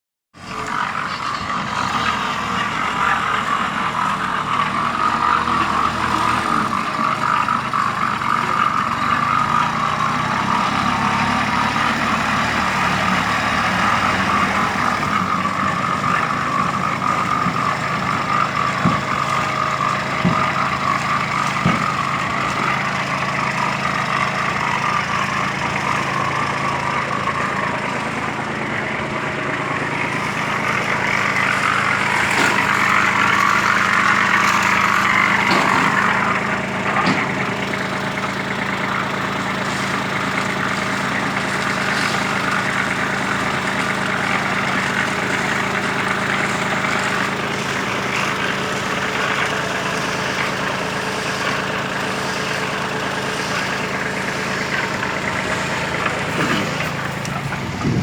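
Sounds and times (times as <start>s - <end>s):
tractor engine running: 0.4s - 58.0s.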